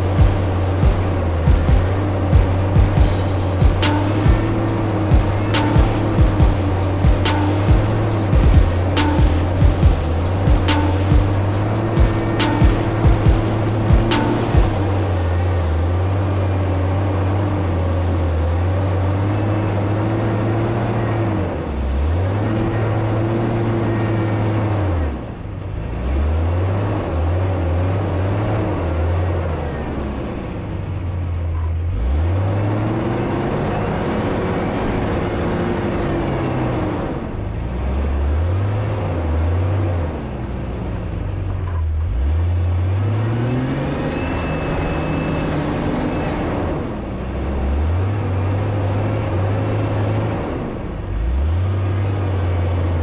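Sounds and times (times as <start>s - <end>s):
engine revving up and down: 0.0s - 30.7s, 31.9s - 53.0s.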